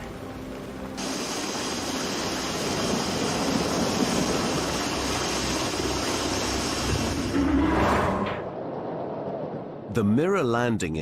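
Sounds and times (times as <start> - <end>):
jet engine roaring: 1.0 - 9.9.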